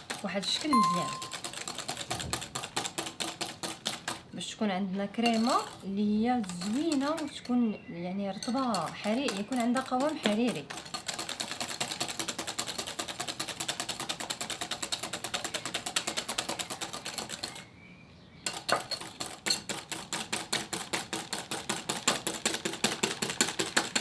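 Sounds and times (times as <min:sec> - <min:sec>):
whisk clicking against bowl: 0:00.0 - 0:04.3, 0:05.2 - 0:05.8, 0:06.4 - 0:07.5, 0:08.3 - 0:17.6, 0:18.5 - 0:24.0.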